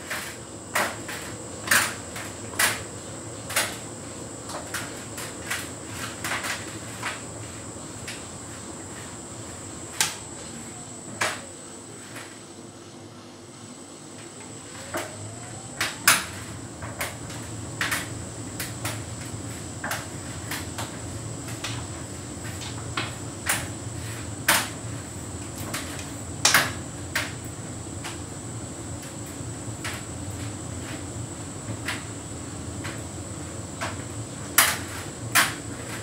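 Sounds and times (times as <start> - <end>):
tumble dryer humming: 0.0 - 36.0.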